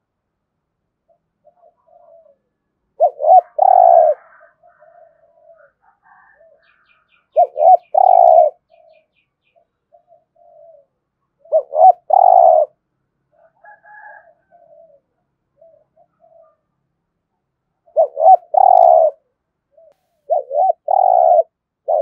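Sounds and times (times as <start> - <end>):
dove cooing: 1.1 - 16.8, 17.8 - 22.0.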